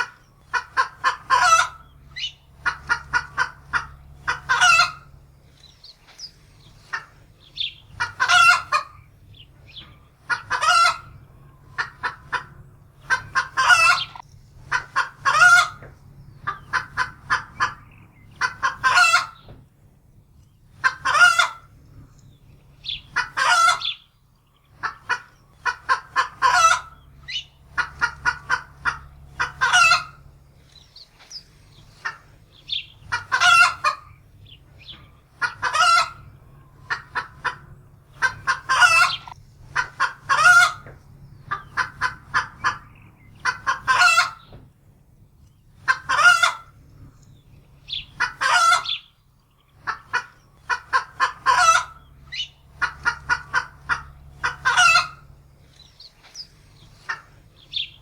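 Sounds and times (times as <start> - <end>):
hen cackling in alarm: 0.0 - 5.2, 6.3 - 19.5, 20.7 - 21.8, 22.8 - 24.1, 24.7 - 44.5, 45.8 - 46.8, 47.7 - 58.0
low steady hum: 0.0 - 58.0.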